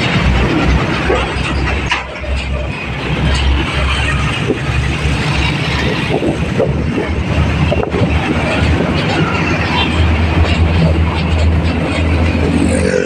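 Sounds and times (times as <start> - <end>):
road and wind noise: 0.0 - 13.0
truck engine drone: 0.0 - 13.0.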